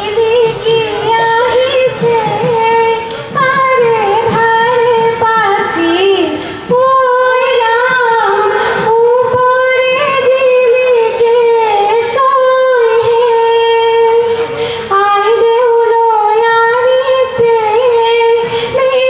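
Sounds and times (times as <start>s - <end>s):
women singing slow melody: 0.0s - 19.0s.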